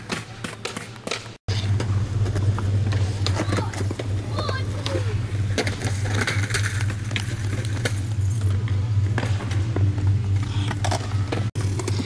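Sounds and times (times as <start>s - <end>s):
skateboard clacking on ground: 0.0s - 10.1s
skateboard wheels rolling on concrete: 0.0s - 12.0s
steady low hum: 1.5s - 12.0s.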